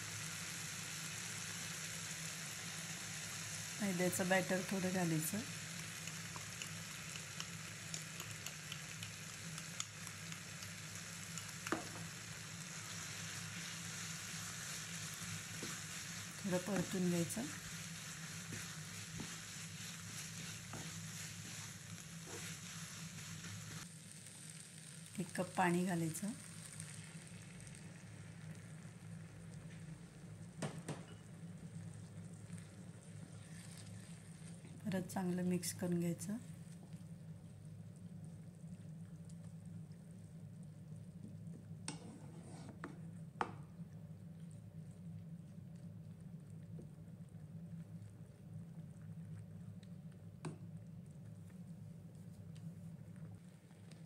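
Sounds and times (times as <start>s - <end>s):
onions frying in a pan: 0.0s - 43.8s.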